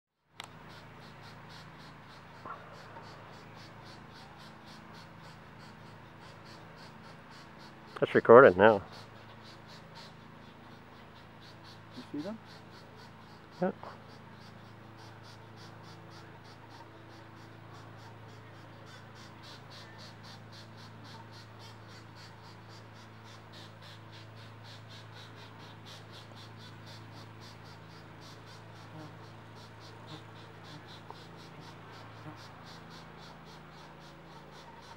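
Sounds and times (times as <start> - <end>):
steady low hum: 0.2 - 34.9
woodpecker nestlings chirring: 0.4 - 34.9.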